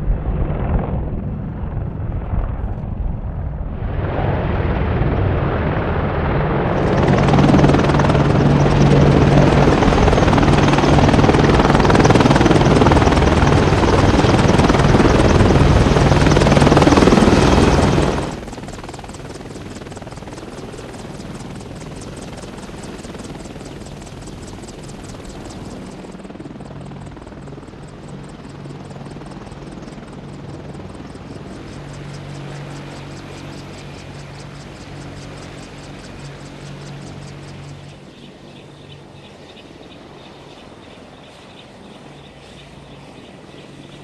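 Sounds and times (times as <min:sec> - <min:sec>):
helicopter rotors beating: 0:00.0 - 0:44.0
high turbine whine: 0:00.0 - 0:44.0.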